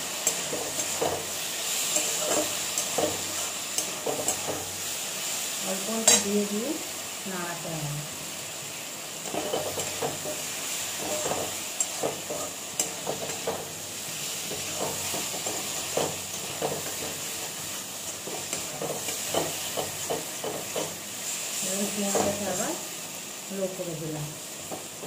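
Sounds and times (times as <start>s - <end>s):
frying sizzle: 0.0s - 25.0s.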